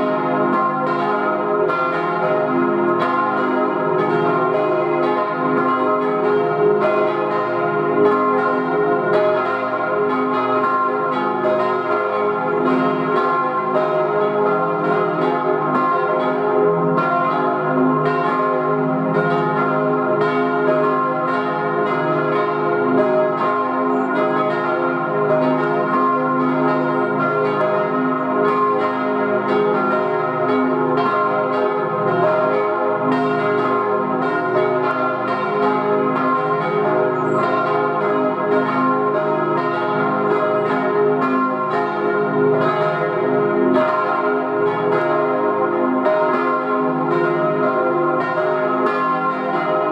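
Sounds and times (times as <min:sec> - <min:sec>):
church bells pealing: 0:00.0 - 0:49.9.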